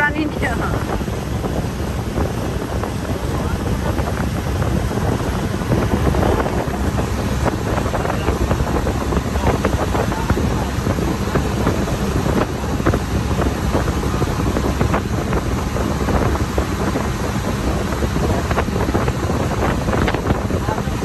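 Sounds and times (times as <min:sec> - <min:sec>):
low rumble: 0:00.0 - 0:21.0
wind buffeting microphone: 0:00.0 - 0:21.0.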